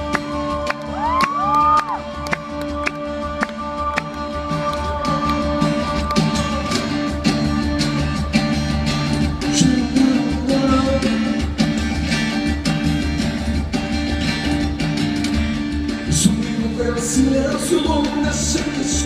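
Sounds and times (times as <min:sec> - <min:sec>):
bass and drums beat: 0:00.0 - 0:19.0
guitar: 0:00.0 - 0:19.0
live band pop ballad: 0:00.0 - 0:19.0.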